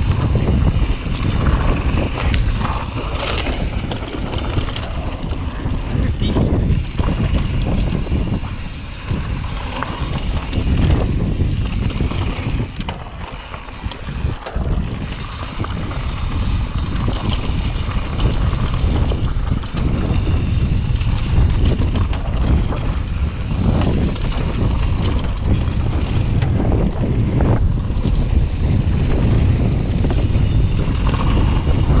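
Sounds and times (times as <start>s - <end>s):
bike knocking and rattling: 0.0s - 32.0s
wind rushing over microphone: 0.0s - 32.0s.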